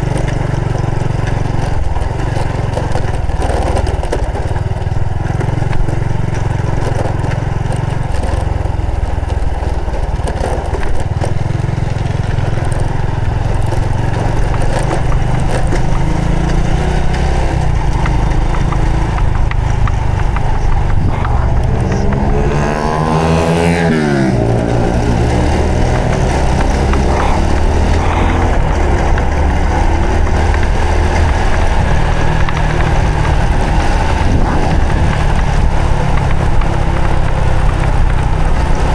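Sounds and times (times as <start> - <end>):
motorcycle engine running: 0.0 - 38.9
wind rumble on microphone: 0.0 - 38.9.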